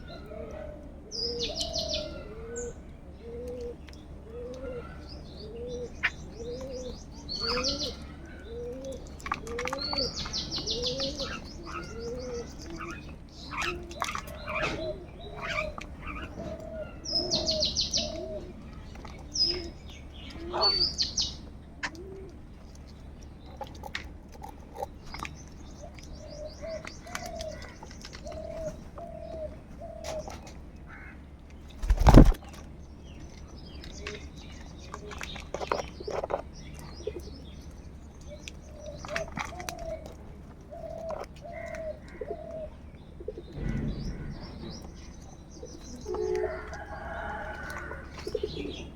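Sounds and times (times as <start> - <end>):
low repeated bird calls: 0.0 - 48.9
small birds chirping: 0.0 - 48.9.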